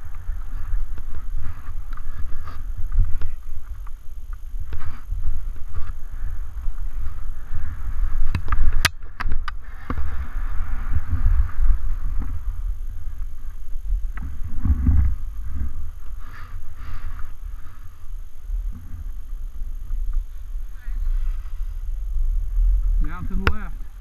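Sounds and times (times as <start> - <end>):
skis scraping over snow: 0.0 - 8.8, 9.6 - 24.0
wind buffeting microphone: 0.0 - 24.0.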